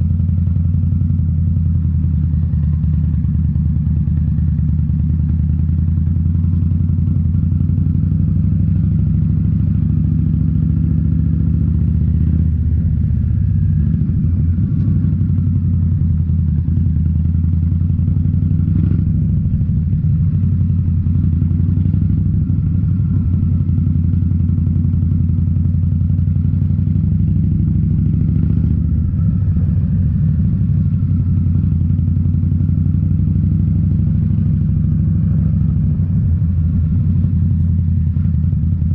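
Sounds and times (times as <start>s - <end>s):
motorcycle engine exhaust note: 0.0s - 38.9s.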